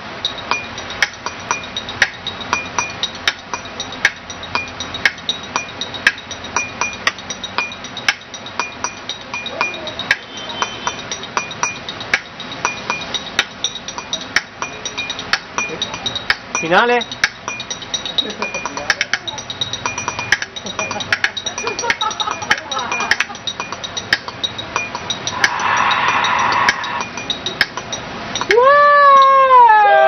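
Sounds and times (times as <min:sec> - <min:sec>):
chopsticks tapping on glass: 0:00.2 - 0:29.4.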